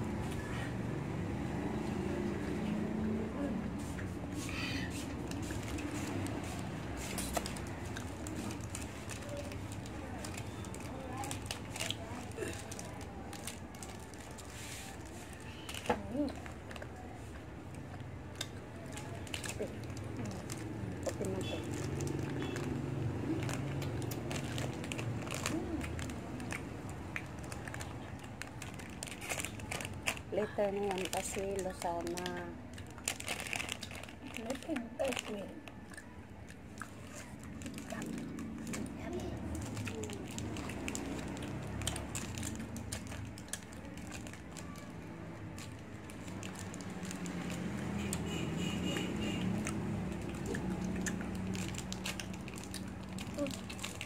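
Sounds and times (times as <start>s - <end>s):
people chewing snacks: 0.0s - 54.0s
plastic wrappers crinkling: 4.6s - 54.0s.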